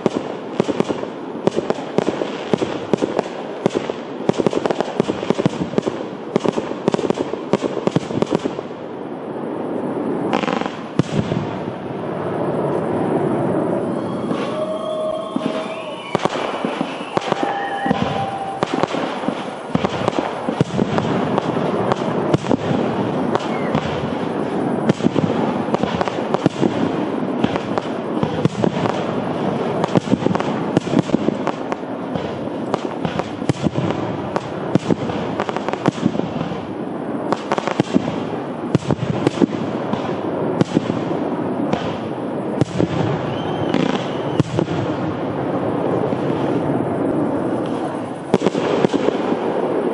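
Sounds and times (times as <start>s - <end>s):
fireworks bangs and crackling: 0.0s - 49.9s
firework whistle: 9.7s - 49.9s.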